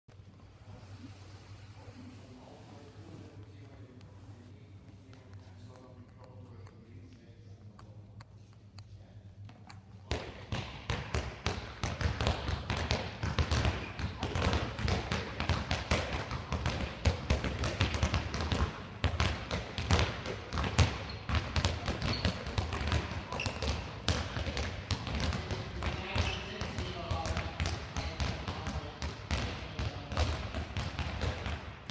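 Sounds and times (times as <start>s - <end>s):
balls bouncing on hall floor: 4.9s - 31.9s.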